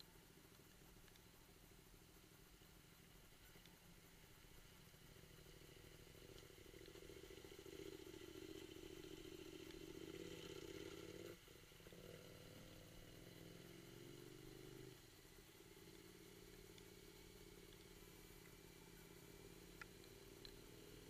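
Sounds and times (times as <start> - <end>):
faint motorcycle engine: 0.0 - 21.0.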